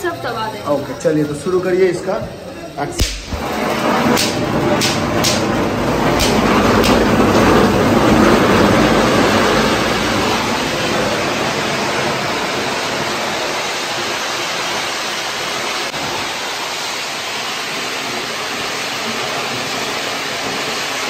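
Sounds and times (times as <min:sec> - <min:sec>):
cold spark fountain hissing: 0:00.0 - 0:21.0.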